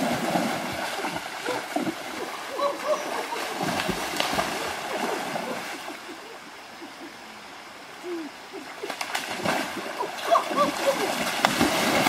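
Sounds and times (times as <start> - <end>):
wading through water splashing: 0.0 - 6.2, 8.5 - 12.0
stream flowing: 0.0 - 12.0.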